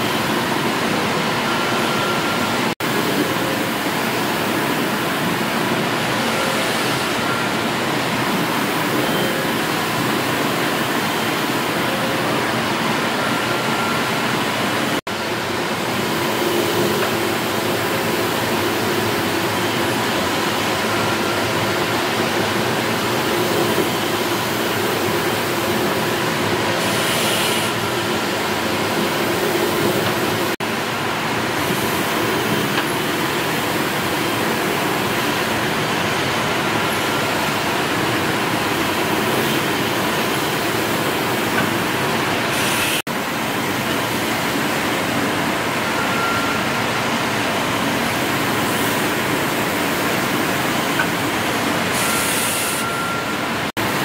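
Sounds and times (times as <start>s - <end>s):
steam engine hiss and rumble: 0.0s - 54.0s.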